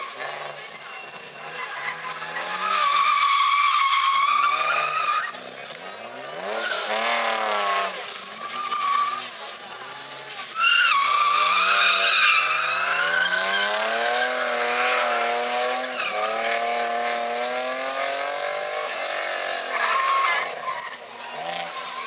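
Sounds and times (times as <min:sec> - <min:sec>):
race car engine revving: 0:00.0 - 0:22.0
tyres squealing: 0:00.0 - 0:22.0.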